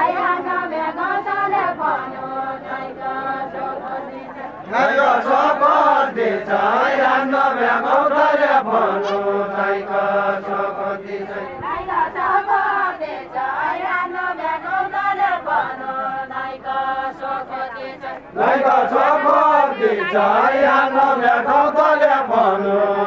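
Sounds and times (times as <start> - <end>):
group singing unaccompanied: 0.0 - 23.0.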